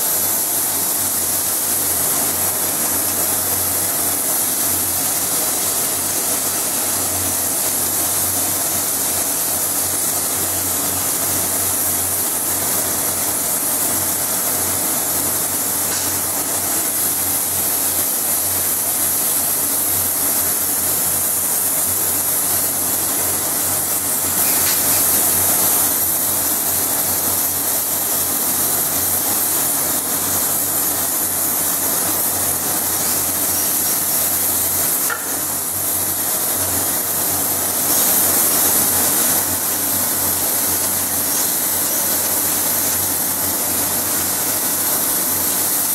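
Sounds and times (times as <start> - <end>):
spray booth hum: 0.0 - 45.9
spray gun hissing: 0.0 - 45.9.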